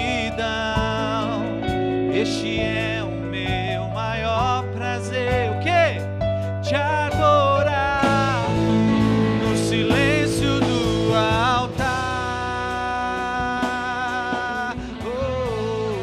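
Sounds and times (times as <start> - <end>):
person singing worship song: 0.0 - 6.0, 6.6 - 16.0
guitar accompaniment: 0.0 - 16.0.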